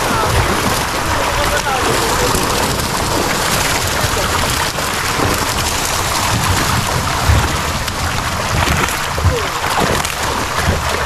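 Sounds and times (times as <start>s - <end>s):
fish thrashing and splashing: 0.0s - 11.0s.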